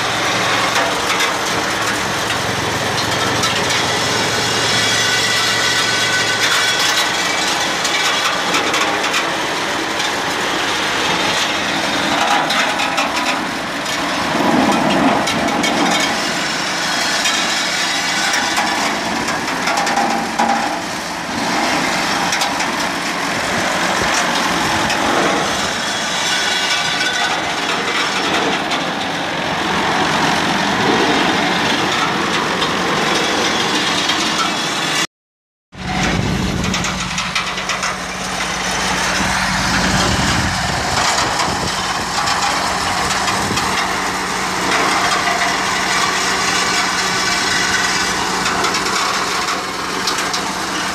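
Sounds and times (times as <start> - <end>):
harvesting machine rattling: 0.0 - 35.0, 35.8 - 50.9
engine running: 0.0 - 35.1, 35.7 - 50.9.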